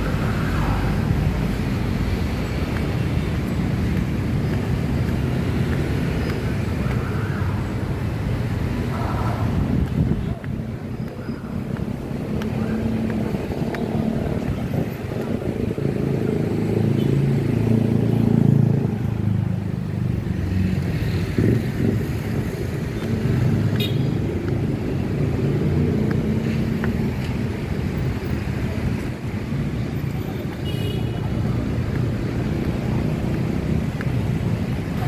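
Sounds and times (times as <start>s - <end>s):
vehicles passing on street: 0.0s - 35.0s.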